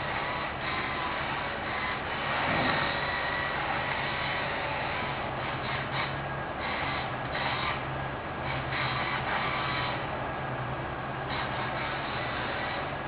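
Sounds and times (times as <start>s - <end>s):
machinery engine humming with surges: 0.0s - 13.0s.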